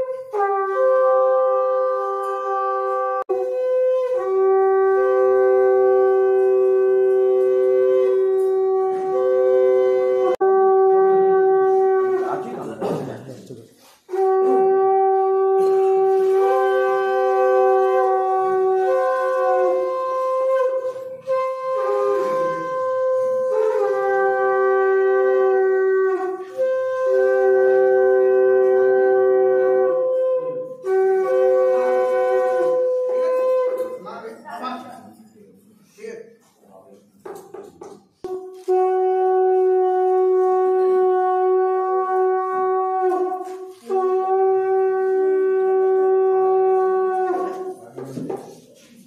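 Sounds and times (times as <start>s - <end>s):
conch shells blown: 0.0s - 13.0s, 13.8s - 34.5s, 37.9s - 49.0s.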